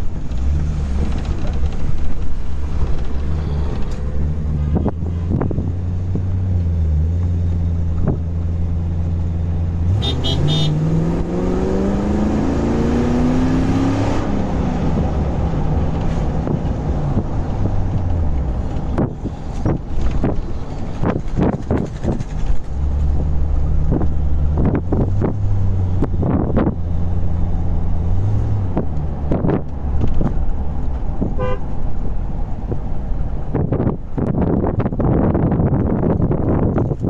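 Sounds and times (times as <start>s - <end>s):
car engine droning and revving: 0.0s - 37.0s.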